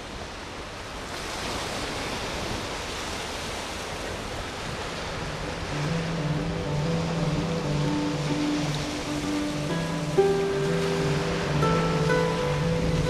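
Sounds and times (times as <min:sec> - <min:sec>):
small waves washing onto sand: 0:00.0 - 0:13.0.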